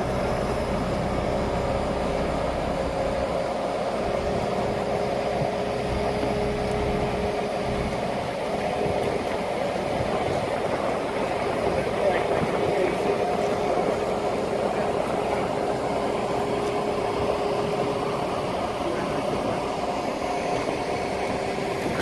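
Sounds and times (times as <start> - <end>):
crane engine and hydraulics: 0.0 - 22.0.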